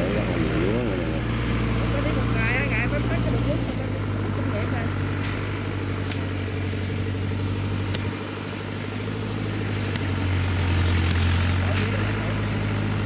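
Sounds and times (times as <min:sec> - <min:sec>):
farm machine engine droning: 0:00.0 - 0:13.0.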